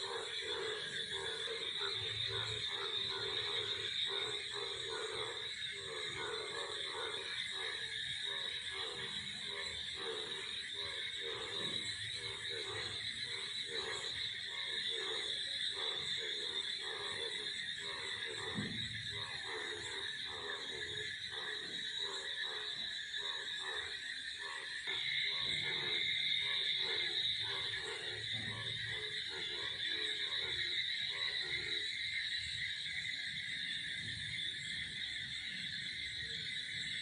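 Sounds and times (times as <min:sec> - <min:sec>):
cicadas droning: 0:00.0 - 0:37.0
frogs croaking: 0:00.0 - 0:37.0.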